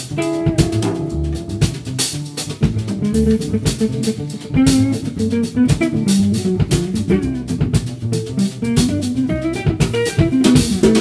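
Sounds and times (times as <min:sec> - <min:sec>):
double bass line: 0:00.0 - 0:11.0
drum and cymbal strokes: 0:00.0 - 0:11.0
electric guitar: 0:00.0 - 0:11.0.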